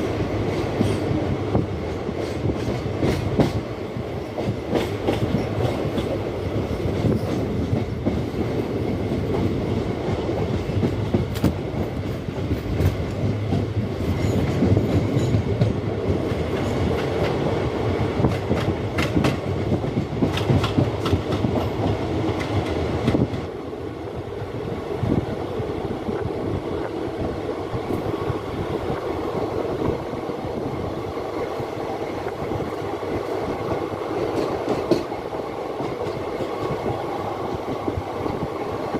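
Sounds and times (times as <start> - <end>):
train wheels clattering on rails: 0.0 - 23.7, 24.4 - 38.9
train rumble: 0.0 - 38.9.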